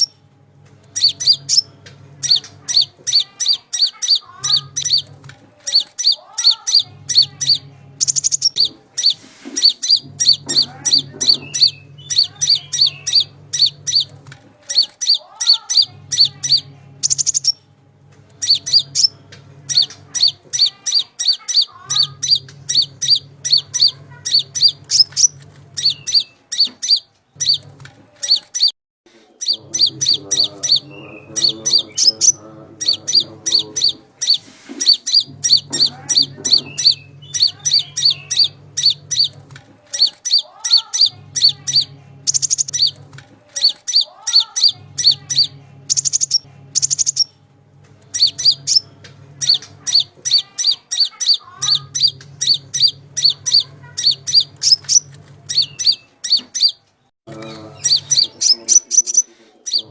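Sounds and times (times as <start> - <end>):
songbird high chirping song: 0.0 - 0.2, 0.9 - 17.6, 18.3 - 28.7, 29.4 - 47.4, 48.0 - 59.9.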